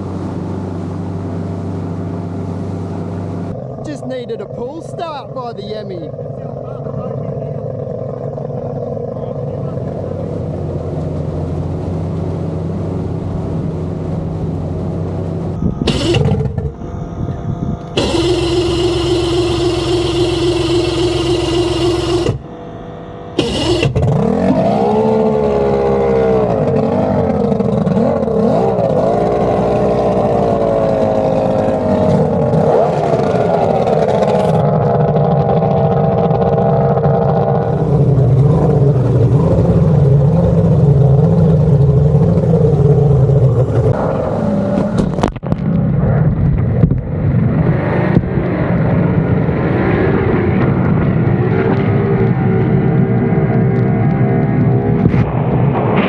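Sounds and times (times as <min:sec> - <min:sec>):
outboard boat engines revving: 0:00.0 - 0:56.0.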